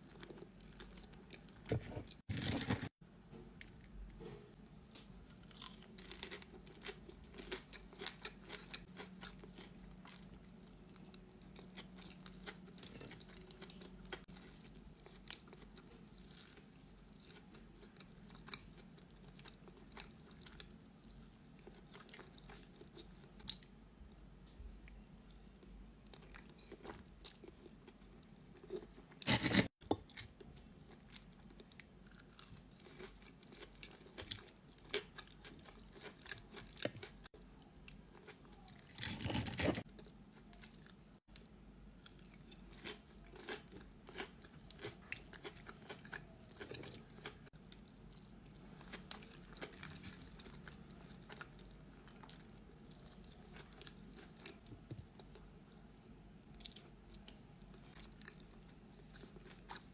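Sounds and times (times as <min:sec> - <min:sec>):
person chewing crunchy food: 0:00.0 - 0:03.0, 0:03.6 - 0:23.8, 0:24.9 - 0:55.7, 0:56.4 - 0:59.9.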